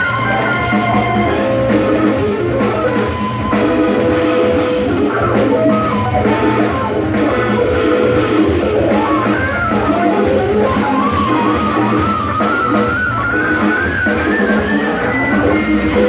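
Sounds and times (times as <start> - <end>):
drum kit: 0.0 - 16.0
electric guitar: 0.0 - 16.0
organ: 0.0 - 16.0.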